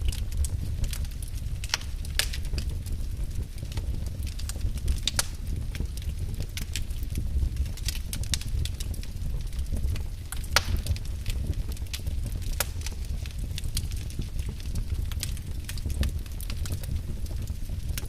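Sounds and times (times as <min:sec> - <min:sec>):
fire pops and snaps: 0:00.0 - 0:18.0
low rumble of burning fire: 0:00.0 - 0:18.0.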